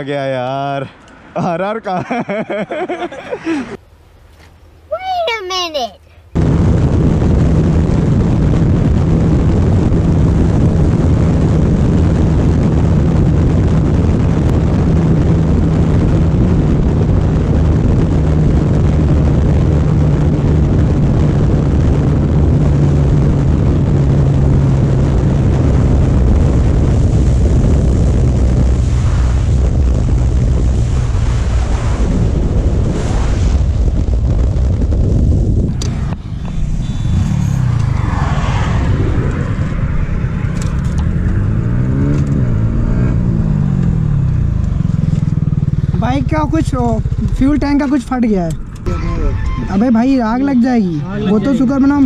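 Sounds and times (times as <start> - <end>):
wind noise on microphone: 6.2 - 52.0
motorcycle engine at speed: 6.4 - 48.9.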